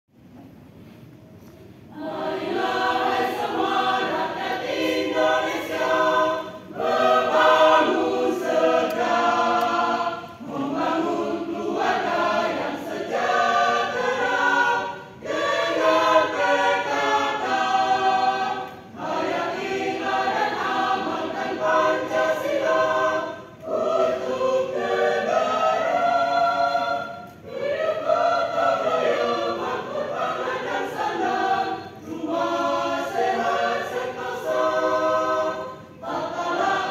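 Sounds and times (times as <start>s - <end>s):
choir singing: 1.9s - 36.9s.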